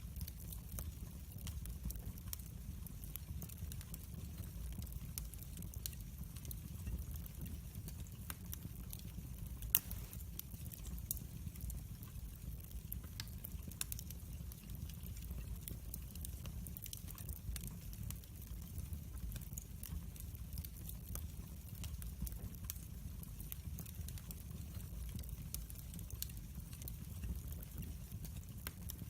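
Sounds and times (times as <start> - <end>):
fire crackling and popping: 0.0 - 29.0
rumble of flames: 0.0 - 29.0.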